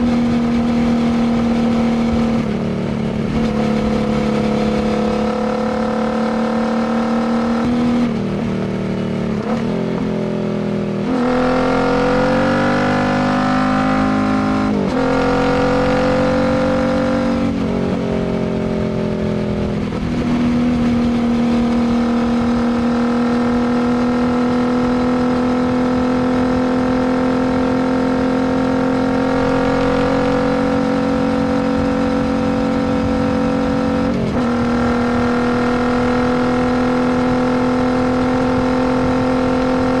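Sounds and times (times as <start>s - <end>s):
motorcycle engine accelerating and cruising: 0.0s - 40.0s.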